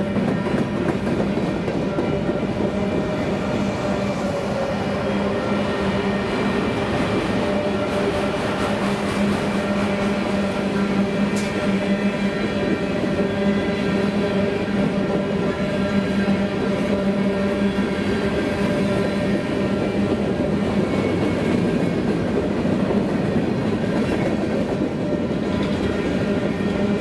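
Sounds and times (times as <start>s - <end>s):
steel wheels rumbling on rail: 0.0s - 27.0s.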